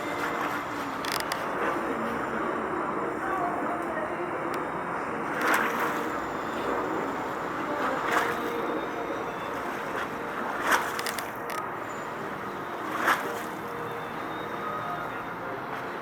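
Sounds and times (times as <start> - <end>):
traffic: 0.0 - 16.0
wind: 0.0 - 16.0.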